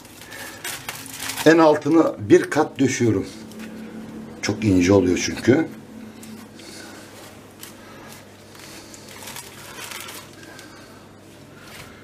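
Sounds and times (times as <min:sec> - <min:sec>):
dough rustling and crinkling: 0:00.0 - 0:04.0, 0:06.1 - 0:12.0.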